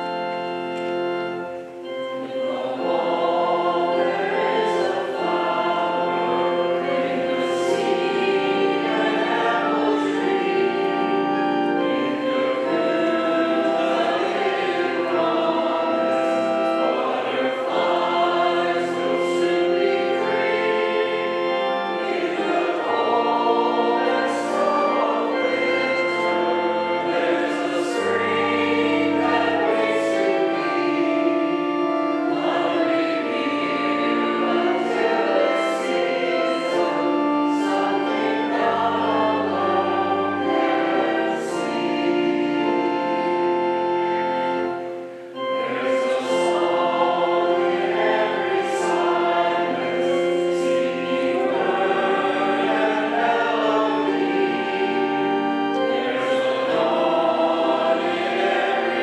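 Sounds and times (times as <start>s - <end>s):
congregation singing a hymn: 0.0s - 59.0s
held chord accompaniment: 0.0s - 59.0s.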